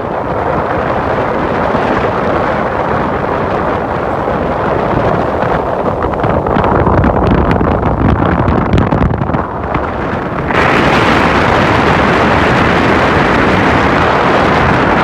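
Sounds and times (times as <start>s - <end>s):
car wind and road noise: 0.0s - 15.0s.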